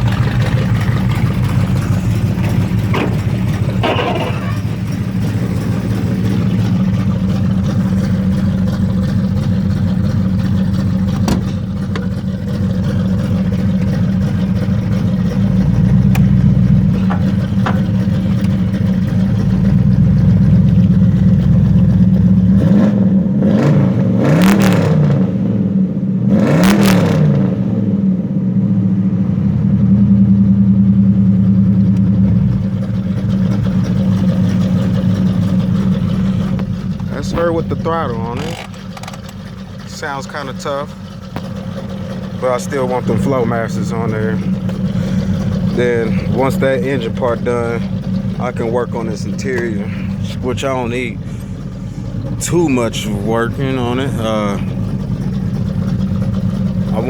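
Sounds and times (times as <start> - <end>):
v eight engine idling: 0.0 - 26.3, 27.4 - 57.0
engine revving: 0.0 - 57.0.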